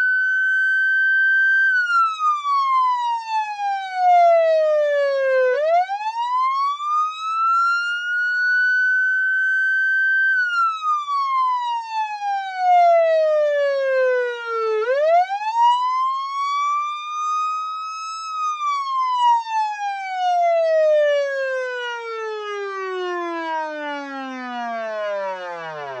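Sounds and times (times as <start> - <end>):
police siren wailing: 0.0 - 26.0.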